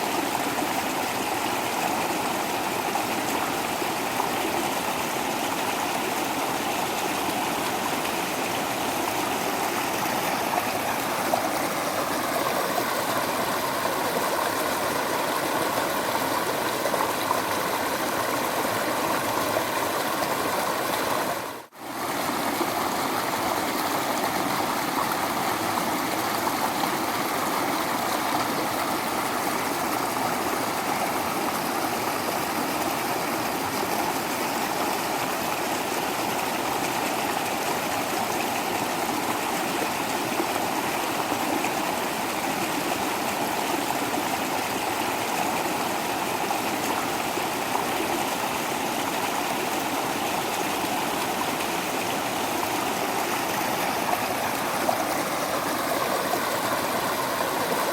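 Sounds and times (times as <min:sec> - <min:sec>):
small waterfall splashing: 0:00.0 - 0:57.9.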